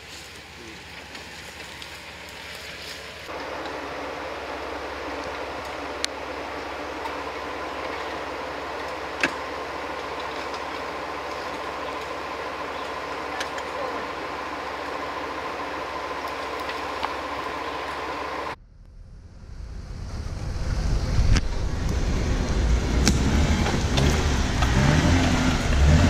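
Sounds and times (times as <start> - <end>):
engine and drivetrain running: 0.0 - 26.0.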